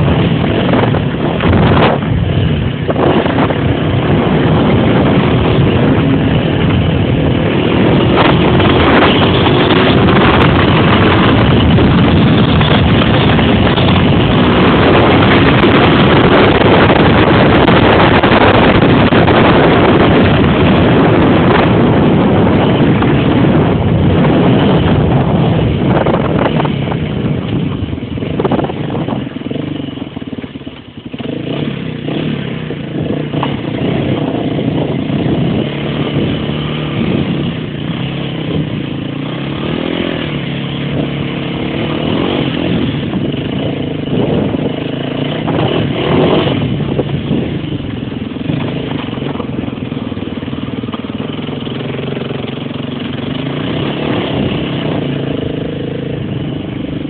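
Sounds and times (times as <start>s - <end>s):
motorbike engine: 0.0s - 57.0s
wind noise on microphone: 0.0s - 57.0s.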